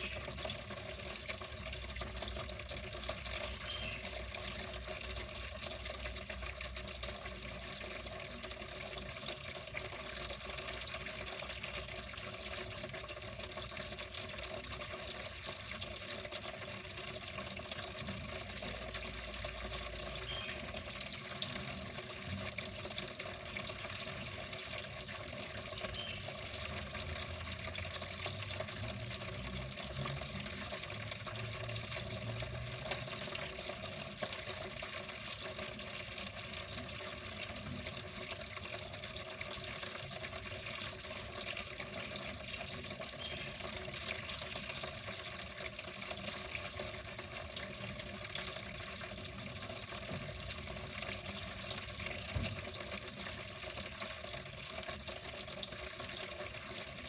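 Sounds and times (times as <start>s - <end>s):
water flowing steadily: 0.0s - 57.0s.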